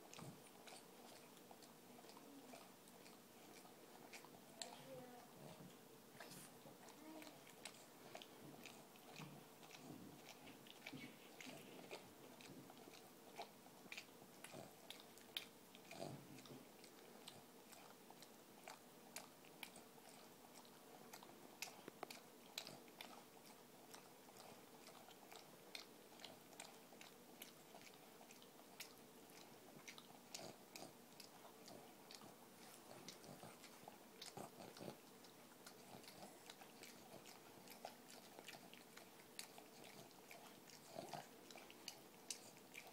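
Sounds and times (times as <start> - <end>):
dog licking with wet smacking: 0.0 - 42.9.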